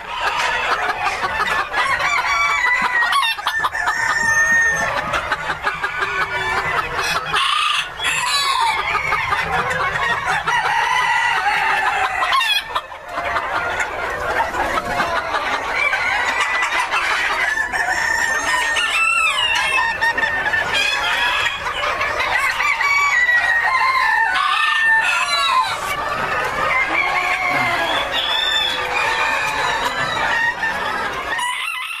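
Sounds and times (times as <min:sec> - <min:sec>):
chickens clucking: 0:00.0 - 0:32.0
roosters crowing: 0:00.0 - 0:32.0.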